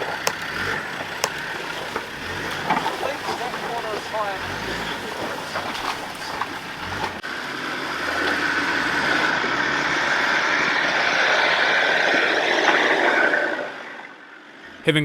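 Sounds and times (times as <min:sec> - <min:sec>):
off-road vehicle engine running: 0:00.0 - 0:13.9
road and tyre noise: 0:00.0 - 0:14.9.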